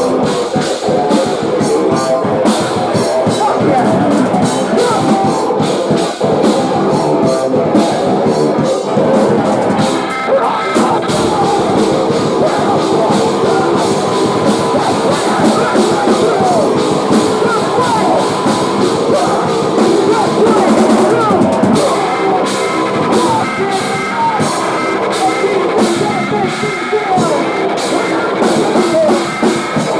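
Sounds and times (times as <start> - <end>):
distorted guitars: 0.0 - 29.9
pounding drum kit: 0.0 - 29.9.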